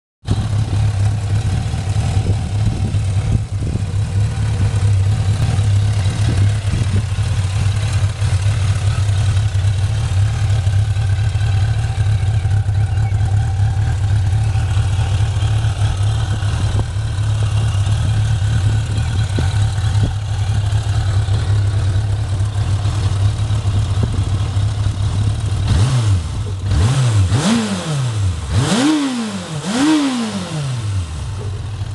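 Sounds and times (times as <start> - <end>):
motorcycle engine idling and revving: 0.2 - 31.9.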